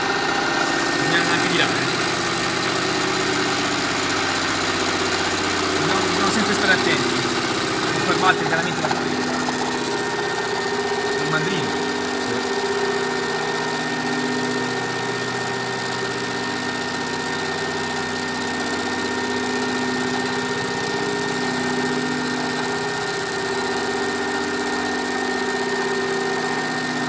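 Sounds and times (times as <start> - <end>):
metal lathe cutting steel: 0.0 - 27.0.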